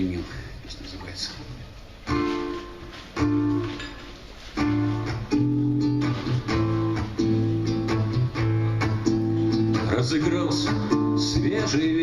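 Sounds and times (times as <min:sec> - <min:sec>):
acoustic guitar strumming: 0:02.0 - 0:12.0.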